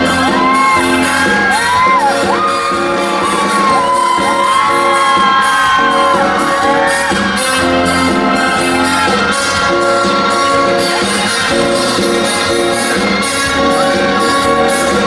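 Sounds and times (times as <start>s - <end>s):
fans screaming and whooping: 0.0s - 15.0s
loud live pop music: 0.0s - 15.0s.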